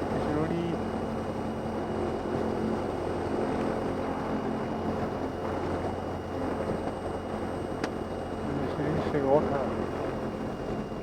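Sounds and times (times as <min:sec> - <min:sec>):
aircraft engine running: 0:00.0 - 0:11.0.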